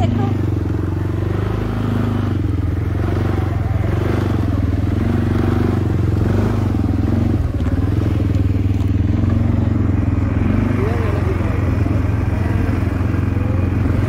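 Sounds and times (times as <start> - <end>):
small vehicle engine running: 0.0 - 14.0.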